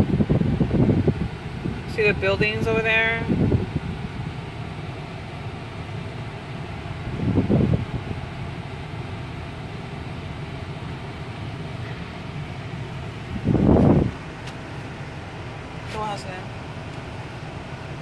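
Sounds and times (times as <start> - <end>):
car cabin engine hum: 0.0 - 18.0
low rumbles: 0.0 - 18.0.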